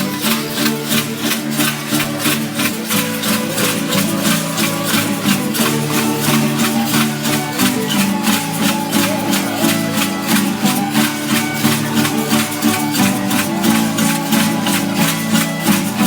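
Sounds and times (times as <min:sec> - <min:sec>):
folk dance music on plucked strings: 0:00.0 - 0:16.0
shaker keeping a quick beat: 0:00.0 - 0:16.0.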